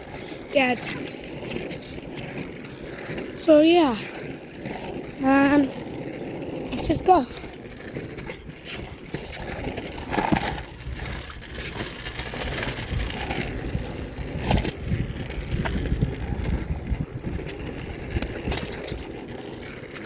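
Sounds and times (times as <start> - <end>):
bicycle tyres rolling: 0.0 - 20.0
bike rattles and clicks: 0.0 - 20.0.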